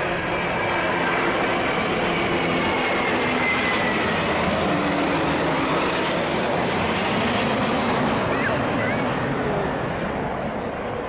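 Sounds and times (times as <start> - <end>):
high-pitched engine whine: 0.0 - 11.0
jet engine whine descending: 0.0 - 11.0
jet engines rushing: 0.0 - 11.0.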